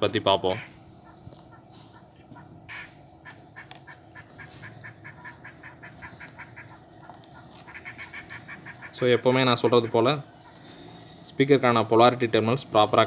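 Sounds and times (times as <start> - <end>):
rapid short animal calls: 0.6 - 11.2.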